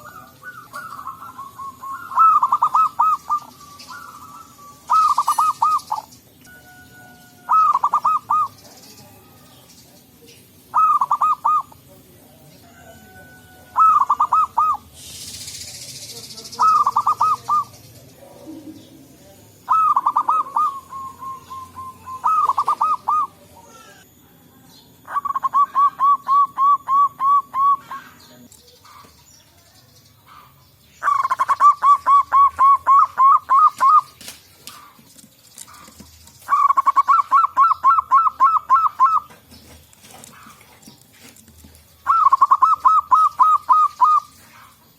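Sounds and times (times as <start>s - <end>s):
doves cooing: 0.0s - 24.2s, 24.9s - 29.4s, 30.2s - 44.9s.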